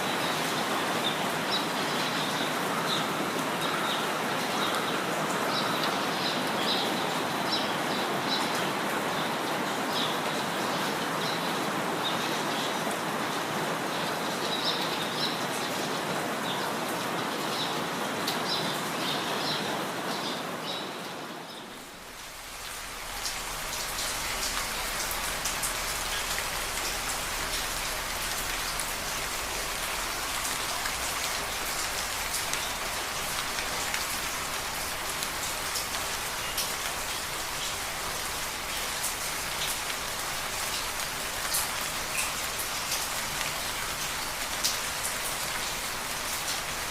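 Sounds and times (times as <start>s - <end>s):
rain falling on a surface: 0.0s - 46.9s
rushing water: 0.0s - 46.9s.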